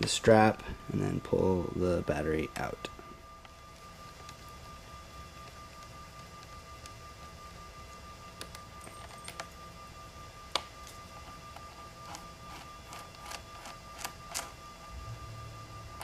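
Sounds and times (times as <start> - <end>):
faint steady tone: 0.0 - 16.0.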